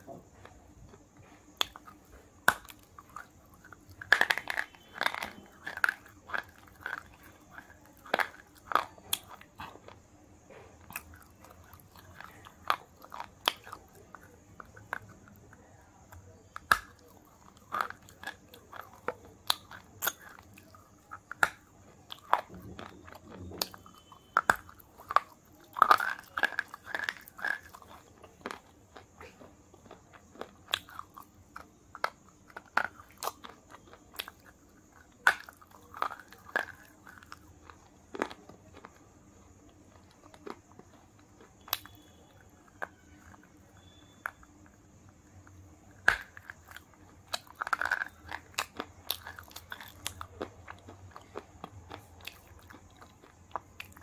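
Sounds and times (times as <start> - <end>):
chewing: 0.0 - 54.0
crunching chocolate wafer: 0.0 - 54.0.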